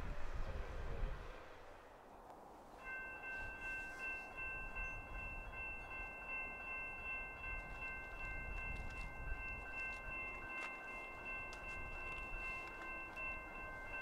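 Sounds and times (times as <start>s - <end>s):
crossing warning bell ringing: 2.8s - 14.0s.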